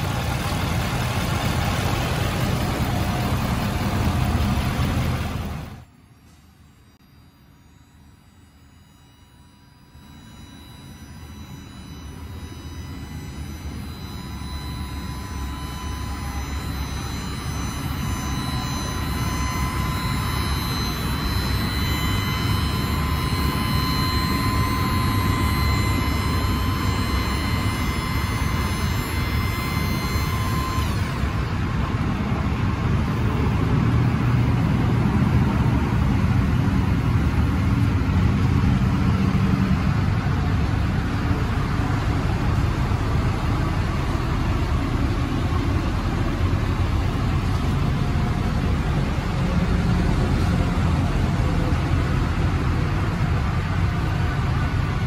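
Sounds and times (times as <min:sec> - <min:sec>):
diesel engine idling: 0:00.0 - 0:06.8, 0:07.5 - 0:55.0
high-pitched tone: 0:00.0 - 0:55.0.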